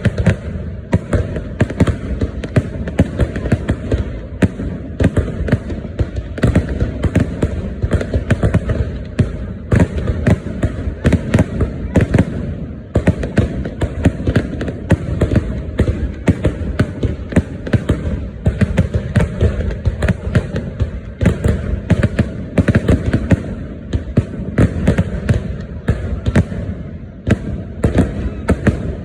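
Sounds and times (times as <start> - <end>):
fireworks banging: 0.0 - 29.0.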